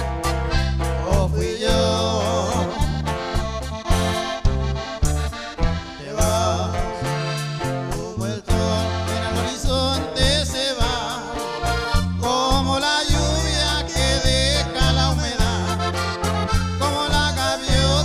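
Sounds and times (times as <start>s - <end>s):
accordion melody: 0.0s - 18.0s
bass notes on steady beat: 0.0s - 18.0s.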